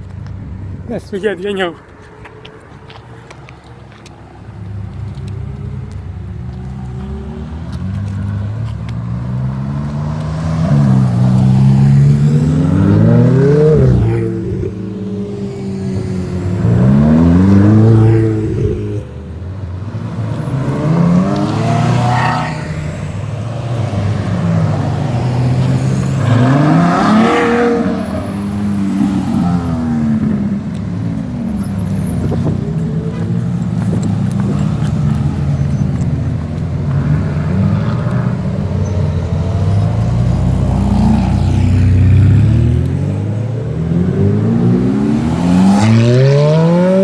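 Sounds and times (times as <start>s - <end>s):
sports cars accelerating past: 6.6s - 47.0s.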